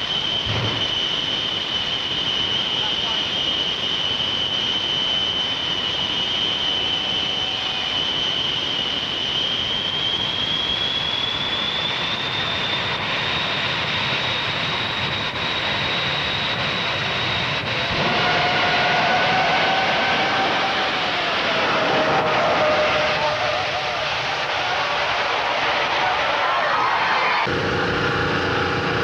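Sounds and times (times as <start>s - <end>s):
jet engines roaring with high whine: 0.0s - 29.0s
lower whine: 0.0s - 29.0s.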